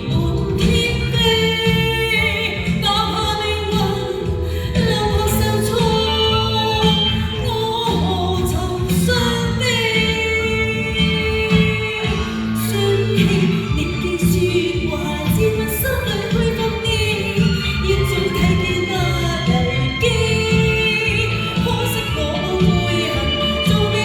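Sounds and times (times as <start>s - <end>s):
instrumental accompaniment with bass: 0.0s - 24.0s
woman singing pop ballad: 0.0s - 24.0s.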